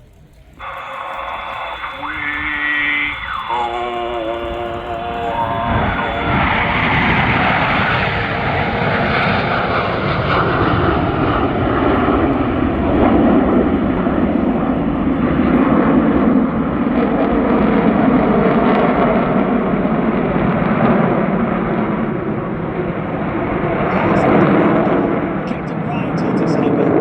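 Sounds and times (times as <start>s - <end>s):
jets flying past: 0.6s - 27.0s.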